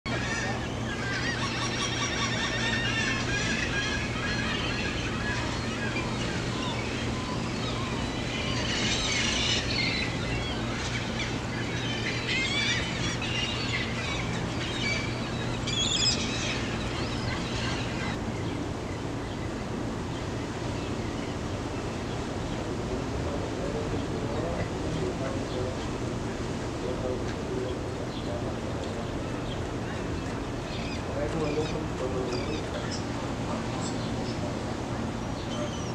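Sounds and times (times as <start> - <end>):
gulls calling: 0.1 - 35.9
steady low hum: 0.1 - 35.9.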